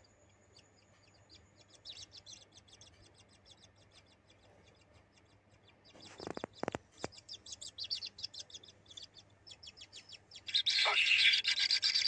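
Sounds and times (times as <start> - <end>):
nestlings chirping: 0.0 - 12.0.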